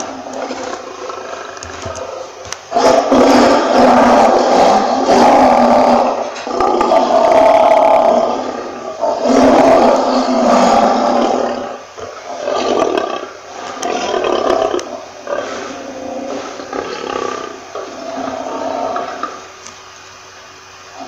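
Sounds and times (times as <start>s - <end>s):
lion roaring: 0.0s - 19.6s.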